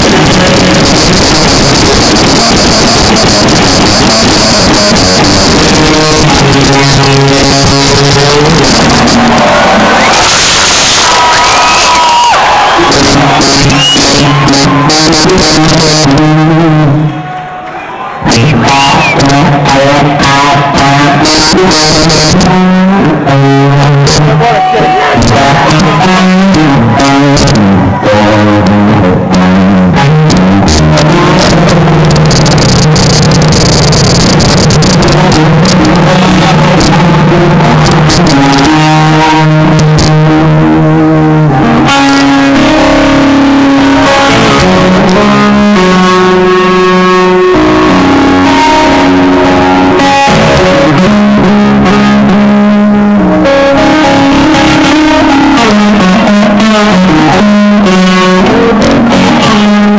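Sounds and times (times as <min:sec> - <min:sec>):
electric guitar solo: 0:00.0 - 0:59.9.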